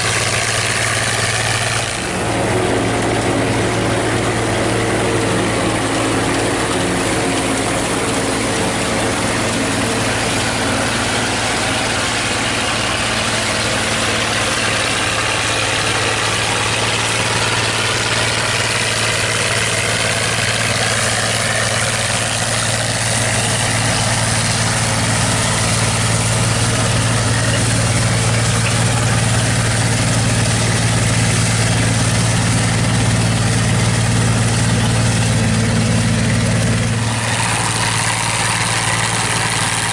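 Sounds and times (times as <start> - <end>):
engine drone: 0.0 - 39.9
forage harvester cutting corn: 0.0 - 39.9.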